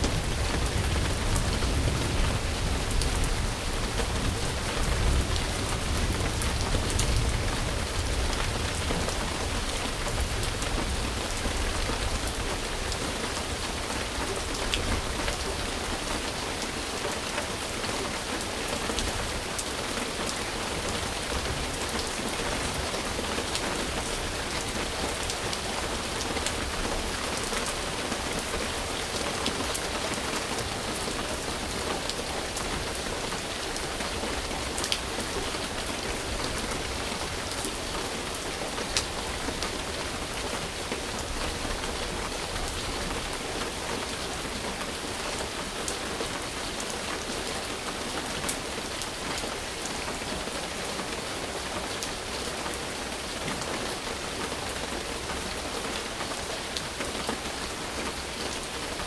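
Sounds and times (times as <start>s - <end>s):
rain hissing on a surface: 0.0s - 59.0s.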